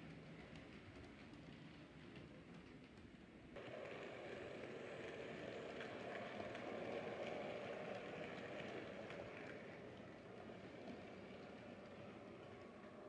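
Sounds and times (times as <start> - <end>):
model train wheels rattling on rails: 0.0 - 13.0.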